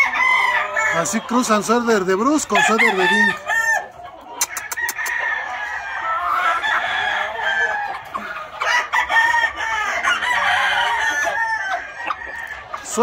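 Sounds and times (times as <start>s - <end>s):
chickens clucking: 0.0s - 13.0s
roosters crowing: 0.0s - 13.0s.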